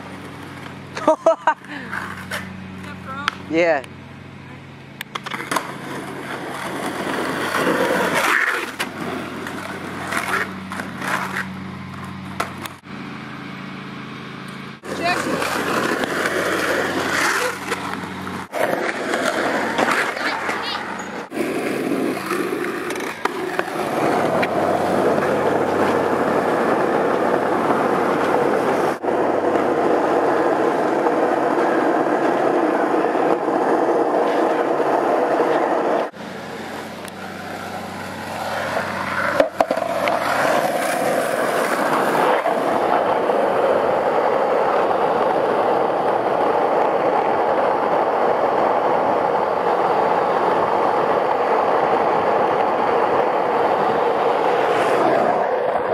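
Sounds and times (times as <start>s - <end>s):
skateboard wheels on asphalt: 0.0s - 55.9s.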